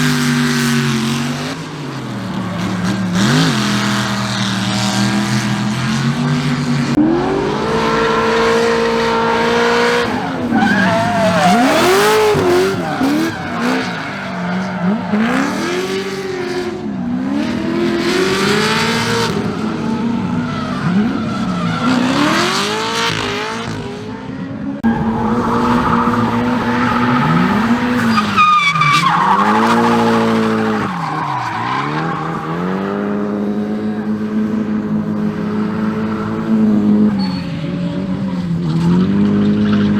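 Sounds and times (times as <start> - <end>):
tyres squealing and skidding: 0.0 - 6.4, 7.0 - 16.7, 18.2 - 23.8, 24.8 - 34.2, 35.6 - 39.9
car engine revving: 0.0 - 39.9.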